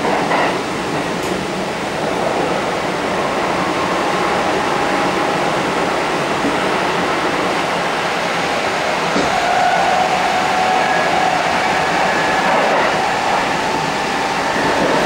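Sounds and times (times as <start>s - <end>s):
passing train rush: 0.0s - 15.0s
wheels on rail roaring: 0.0s - 15.0s.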